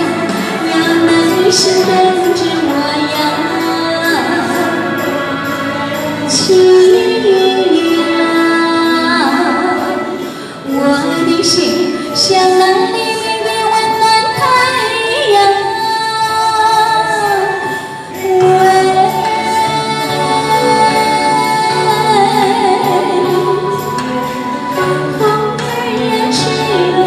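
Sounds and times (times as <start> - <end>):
instrumental accompaniment: 0.0 - 27.0
woman singing: 0.0 - 27.0.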